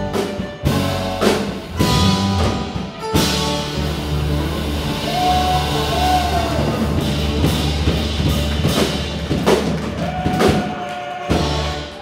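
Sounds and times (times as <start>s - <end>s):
drum and cymbal hits: 0.0s - 12.0s
live rock band: 0.0s - 12.0s.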